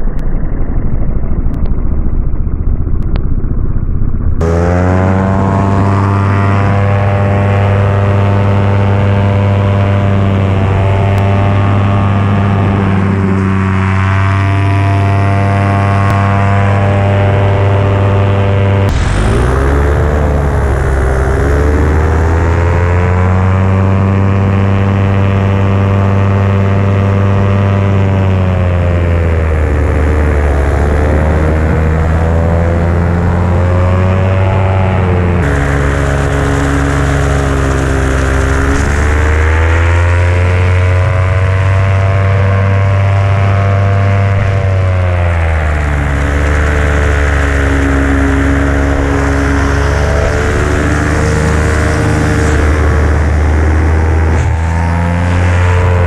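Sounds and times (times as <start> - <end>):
paramotor engine droning: 0.0 - 56.0.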